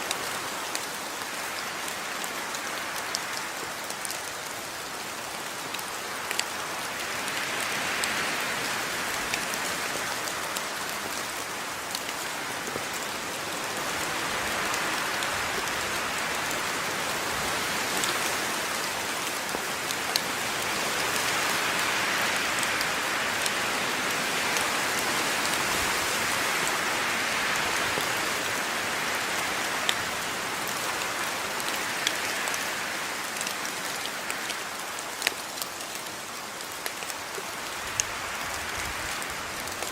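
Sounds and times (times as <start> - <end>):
steady rain on a surface: 0.0 - 39.9.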